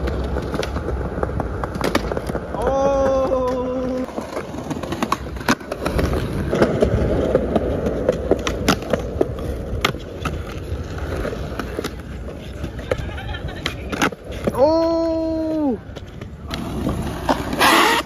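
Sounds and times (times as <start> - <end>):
skateboard clacks: 0.0 - 18.0
skateboard wheels rolling on stone: 0.0 - 18.0.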